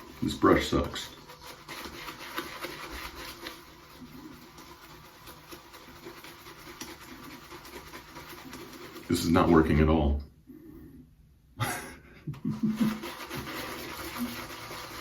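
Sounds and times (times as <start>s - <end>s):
shaving brush scrubbing soap: 0.0s - 10.1s, 12.5s - 15.0s.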